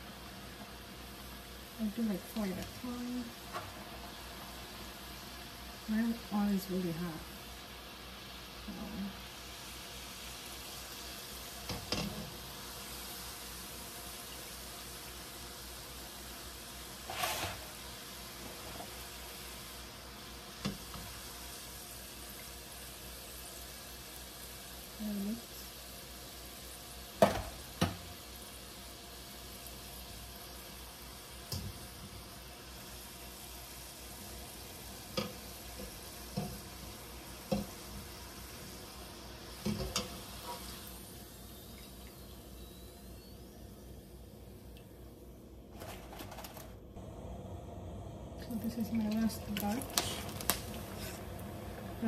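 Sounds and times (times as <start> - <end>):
hot oil sizzling in a wok: 0.0 - 45.2, 47.0 - 52.0.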